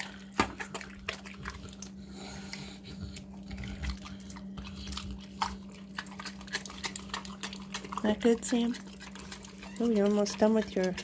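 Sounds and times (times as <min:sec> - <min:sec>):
pig chewing and smacking: 0:00.0 - 0:11.0.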